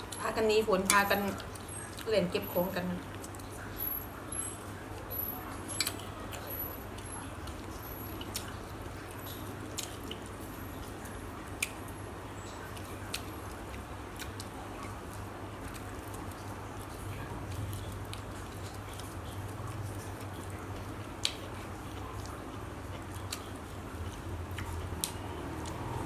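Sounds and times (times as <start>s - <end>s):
person chewing: 0.0s - 2.1s, 3.0s - 26.0s.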